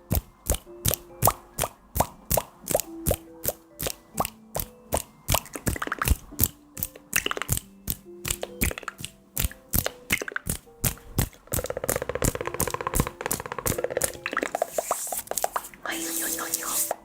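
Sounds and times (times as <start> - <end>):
soft background music: 0.0 - 17.0
sharp taps and cracks: 0.1 - 14.6
fine scratchy ticking: 0.5 - 16.9.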